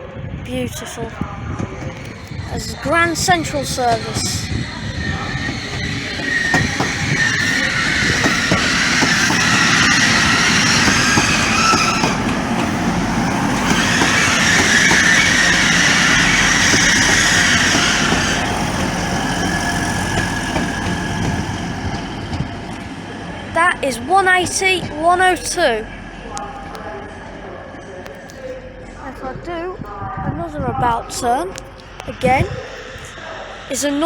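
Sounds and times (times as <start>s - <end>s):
diesel train running past: 0.0s - 34.0s
train wheels on rails: 0.7s - 34.0s.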